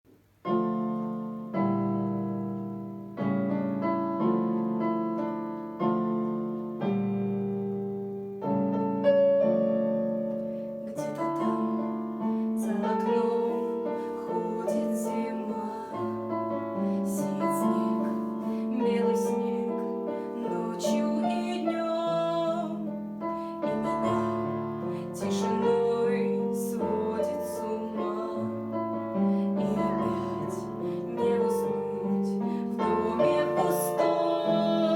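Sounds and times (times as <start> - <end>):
piano chords: 0.2 - 34.9.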